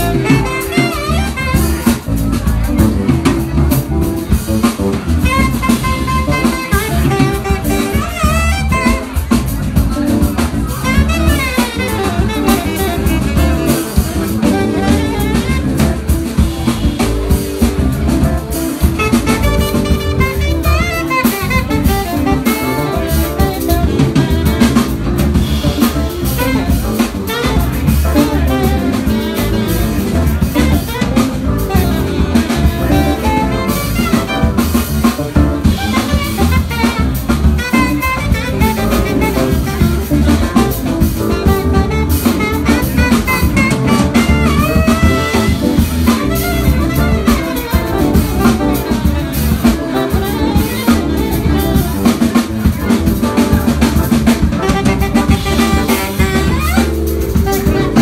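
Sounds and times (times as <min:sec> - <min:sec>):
jazz band playing: 0:00.0 - 0:58.0
saxophone melody: 0:00.0 - 0:58.0.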